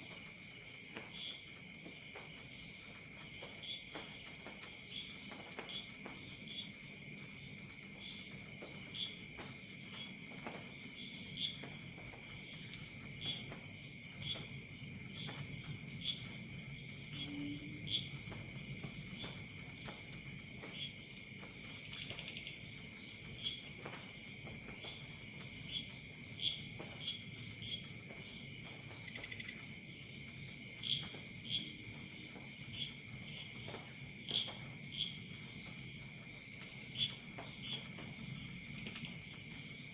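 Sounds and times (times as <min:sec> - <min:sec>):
faint campfire crackle: 0:00.0 - 0:39.9
insect chirps: 0:00.0 - 0:39.9
insects trilling: 0:00.0 - 0:39.9.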